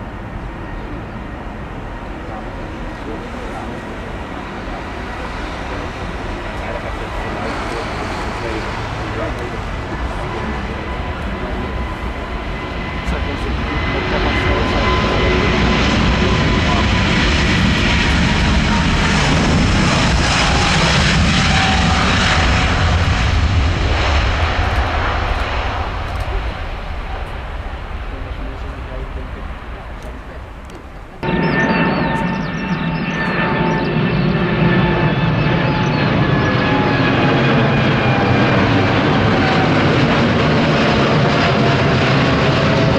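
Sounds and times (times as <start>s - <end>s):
jet engines roaring: 0.0s - 42.9s.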